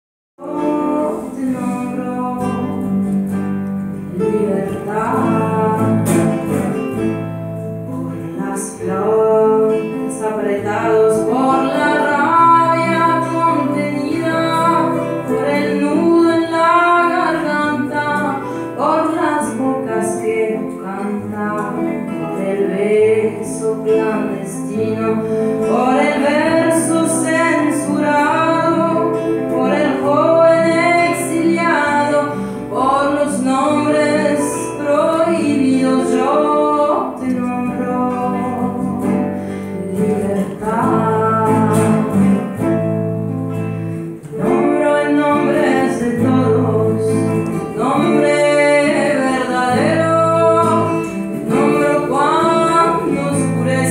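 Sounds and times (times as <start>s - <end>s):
acoustic guitars playing: 0.4s - 53.9s
woman singing: 0.4s - 53.9s.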